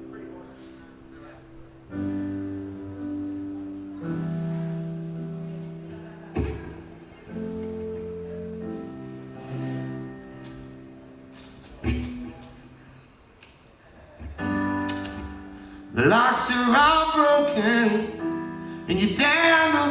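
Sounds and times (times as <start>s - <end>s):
live instrumental music chords: 0.0s - 13.6s, 14.2s - 19.9s.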